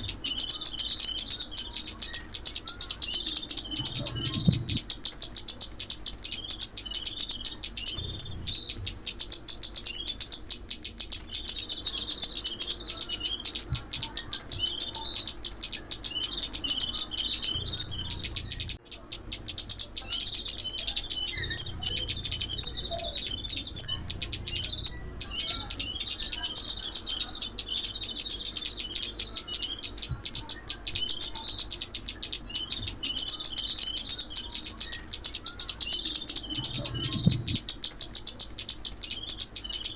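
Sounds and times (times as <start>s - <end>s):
bird twittering: 0.0s - 39.9s
thin high whine: 0.0s - 39.9s.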